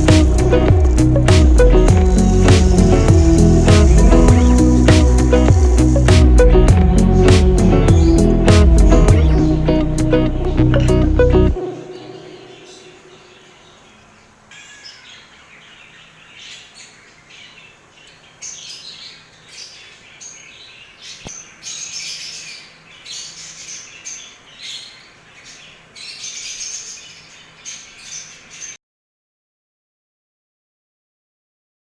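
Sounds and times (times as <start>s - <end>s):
small birds chirping: 0.0s - 28.8s.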